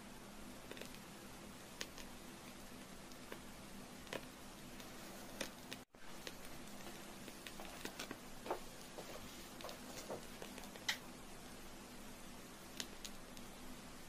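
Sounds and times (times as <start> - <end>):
steady low hiss: 0.0 - 14.0
candle wick crackling: 0.5 - 11.1, 12.7 - 13.6.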